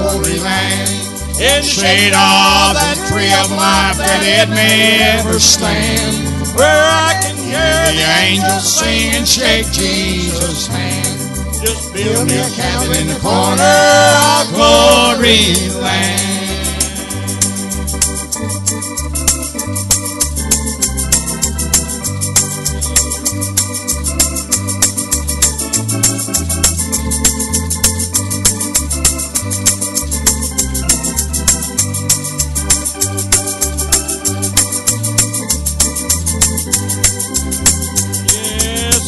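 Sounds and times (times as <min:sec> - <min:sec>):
steady beat: 0:00.0 - 0:28.0, 0:29.0 - 0:39.0
bass line: 0:00.0 - 0:39.0
organ playing: 0:00.0 - 0:39.0.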